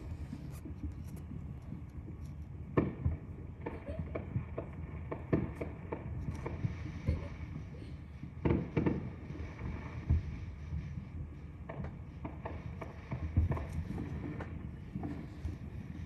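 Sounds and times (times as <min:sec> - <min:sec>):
distant fireworks booms and pops: 0:00.0 - 0:16.0.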